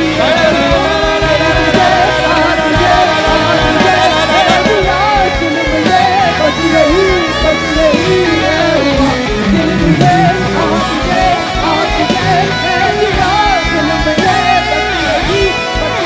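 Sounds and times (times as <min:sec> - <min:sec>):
bending melodic lead: 0:00.0 - 0:16.0
guitar: 0:00.0 - 0:16.0
live band music: 0:00.0 - 0:16.0.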